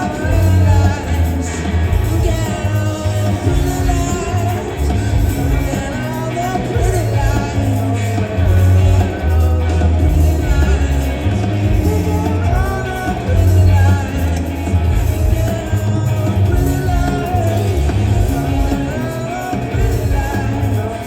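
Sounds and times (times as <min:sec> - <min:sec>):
live rock band playing: 0:00.0 - 0:21.0
person singing: 0:00.0 - 0:21.0
sustained bass notes: 0:00.0 - 0:21.0.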